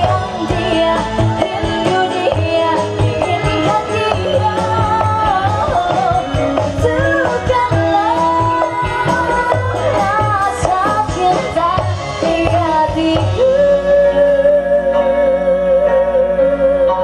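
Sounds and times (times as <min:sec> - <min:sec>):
person singing with music: 0:00.0 - 0:17.0.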